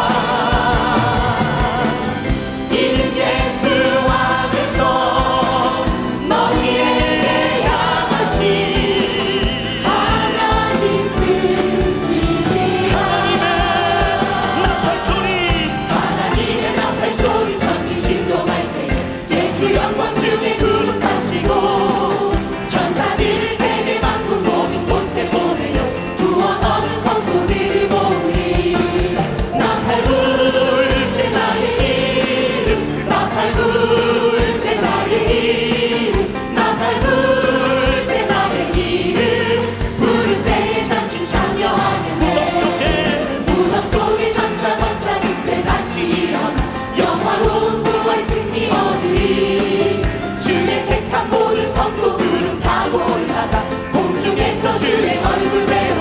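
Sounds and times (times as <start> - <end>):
choir and congregation singing hymn: 0.0 - 56.0
instrumental accompaniment: 0.0 - 56.0.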